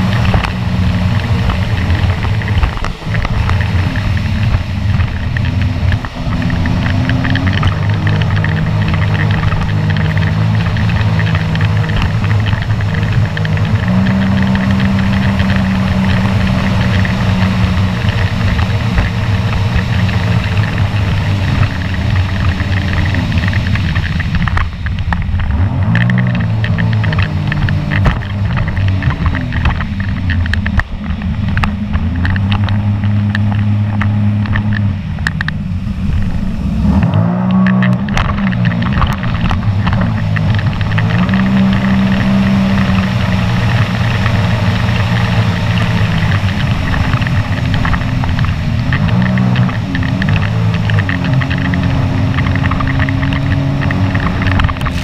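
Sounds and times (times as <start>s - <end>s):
water slapping against hull: 0.0s - 55.0s
watercraft engine running: 0.0s - 55.0s.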